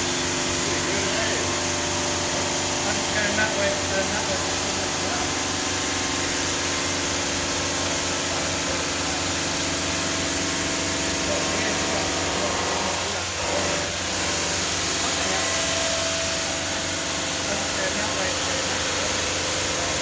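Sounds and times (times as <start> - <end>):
stone saw cutting granite: 0.0 - 20.0.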